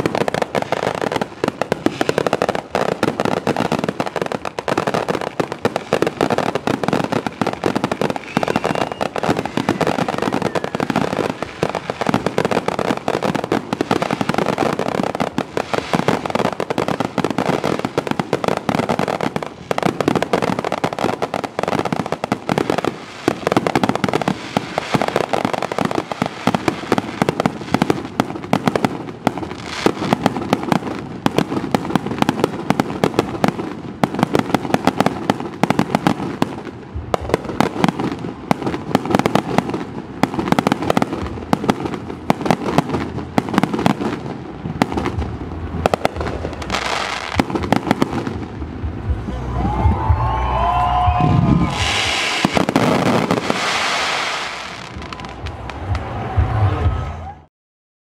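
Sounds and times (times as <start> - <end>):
fireworks bangs: 0.0 - 57.5.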